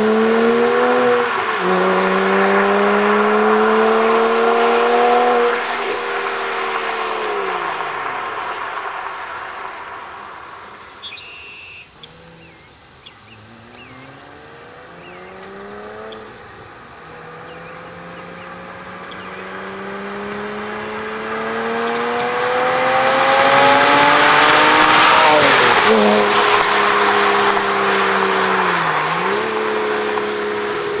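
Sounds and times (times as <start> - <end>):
sports car driving past: 0.0 - 11.0, 12.0 - 31.0.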